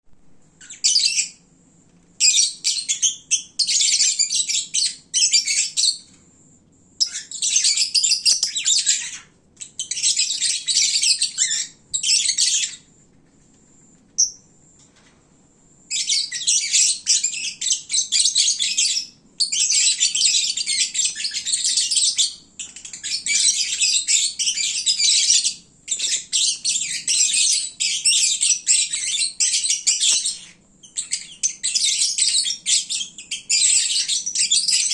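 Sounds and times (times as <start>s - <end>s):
lovebirds chirping and squeaking: 0.6s - 1.4s, 2.2s - 6.2s, 7.0s - 12.9s, 15.9s - 34.9s.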